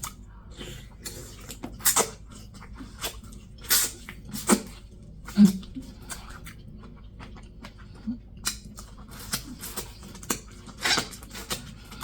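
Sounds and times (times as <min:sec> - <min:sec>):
person chewing with wet smacking: 0:00.0 - 0:12.0.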